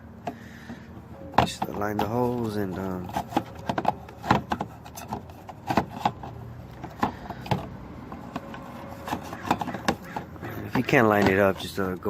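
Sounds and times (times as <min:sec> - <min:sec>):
plastic clicks and knocks: 0:00.2 - 0:11.7.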